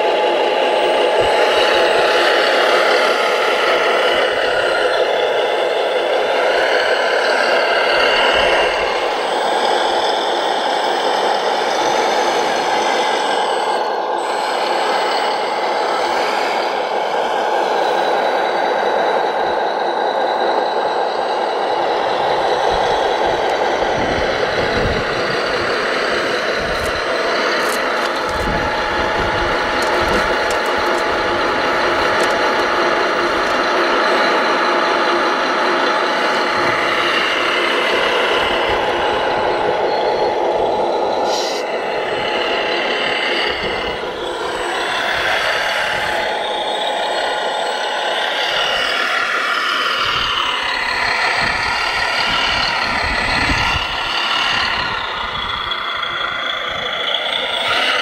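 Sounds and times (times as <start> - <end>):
model loader motor whine: 0.0 - 58.0.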